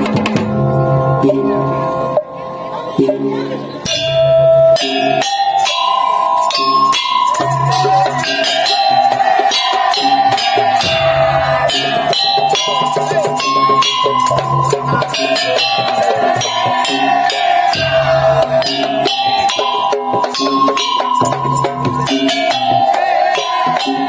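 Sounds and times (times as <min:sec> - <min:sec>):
wooden slit drums beating: 0:00.0 - 0:01.5, 0:03.0 - 0:24.0
sustained melody line: 0:00.5 - 0:24.0.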